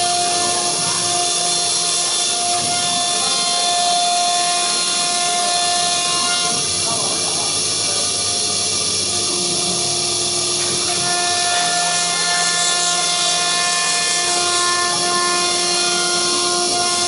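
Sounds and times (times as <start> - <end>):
engraving router cutting: 0.0 - 17.0.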